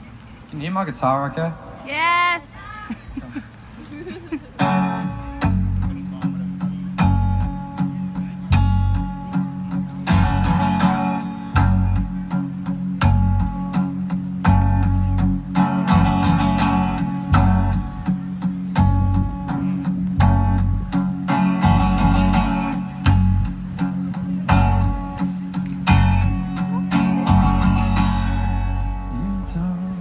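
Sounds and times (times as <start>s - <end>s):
guitar strumming chords: 4.6s - 30.0s.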